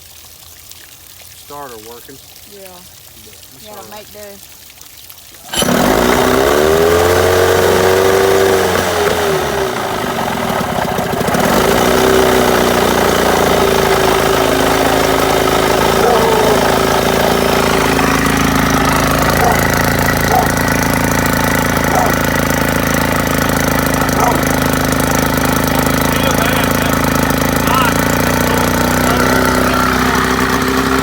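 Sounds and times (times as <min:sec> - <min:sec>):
outboard motor running: 0:05.4 - 0:31.0.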